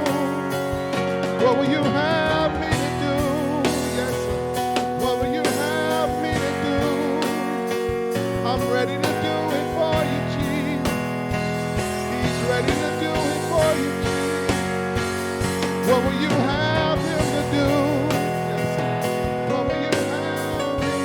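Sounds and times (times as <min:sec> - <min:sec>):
drum hits: 0:00.0 - 0:21.0
worship music chords and melody: 0:00.0 - 0:21.0.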